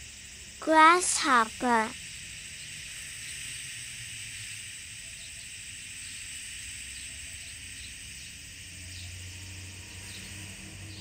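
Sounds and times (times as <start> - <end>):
high-pitched garden ambience hiss: 0.0 - 11.0.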